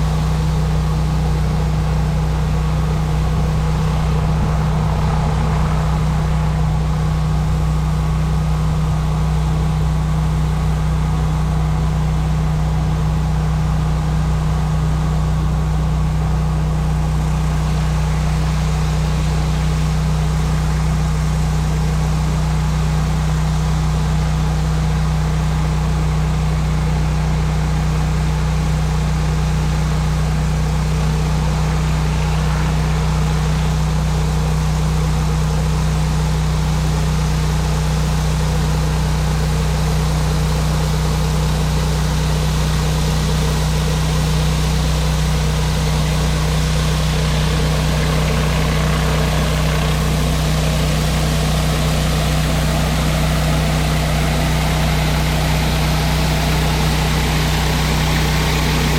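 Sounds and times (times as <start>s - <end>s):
pressure washer engine hum: 0.0s - 22.8s, 23.6s - 58.9s.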